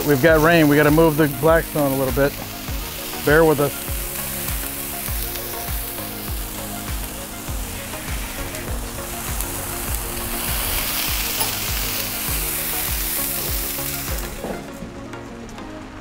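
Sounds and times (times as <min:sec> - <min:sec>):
food sizzling in oil: 0:00.0 - 0:14.6
background music with steady beat: 0:00.0 - 0:16.0.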